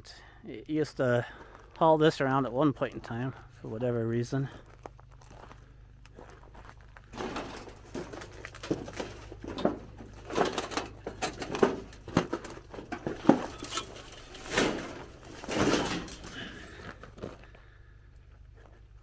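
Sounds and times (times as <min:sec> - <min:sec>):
footsteps crunching on gravel: 0:00.8 - 0:17.6.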